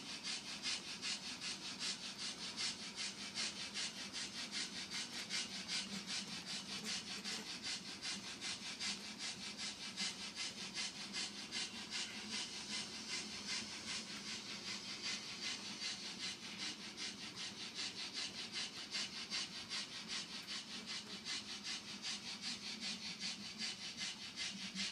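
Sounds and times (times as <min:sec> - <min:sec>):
model train wheels clicking: 0:00.0 - 0:24.9.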